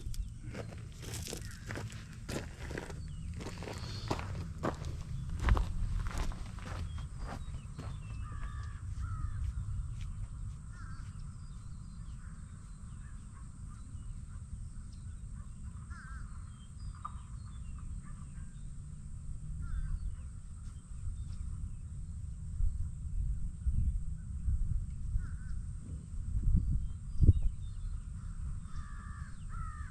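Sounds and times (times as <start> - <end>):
birds calling: 0.0 - 18.8, 19.6 - 21.8, 26.8 - 29.9
low steady rumble: 0.0 - 29.9.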